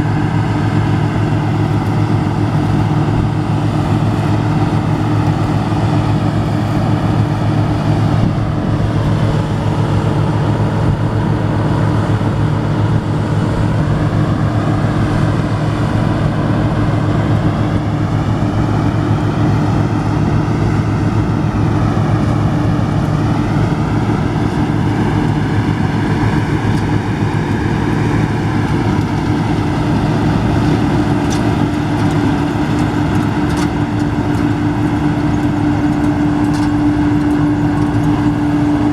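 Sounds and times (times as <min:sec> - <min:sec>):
combine harvester engine drone: 0:00.0 - 0:38.9
threshing machinery whine: 0:00.0 - 0:38.9.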